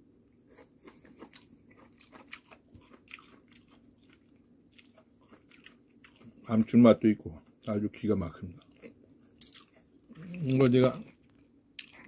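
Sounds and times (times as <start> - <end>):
person chewing crisp food: 0.4 - 12.0.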